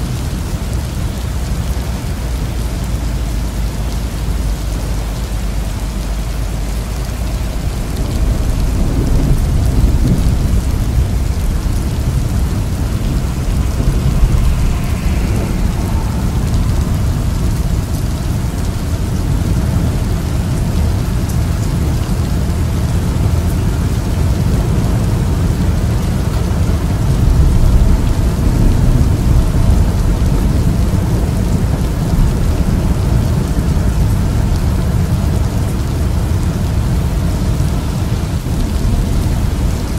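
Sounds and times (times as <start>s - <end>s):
rain on car windshield: 0.0s - 39.9s
thunder rumble: 0.0s - 39.9s.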